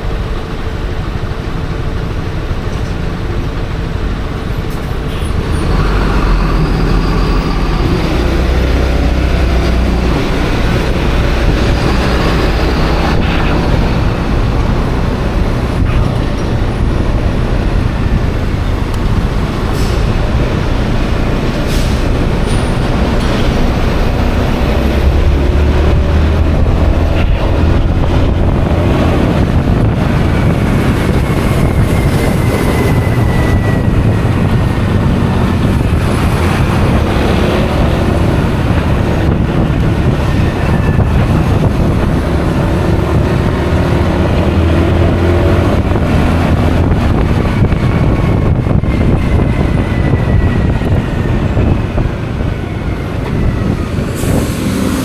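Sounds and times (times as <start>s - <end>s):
road noise: 0.0s - 55.0s
wind rushing on microphone: 2.0s - 55.0s.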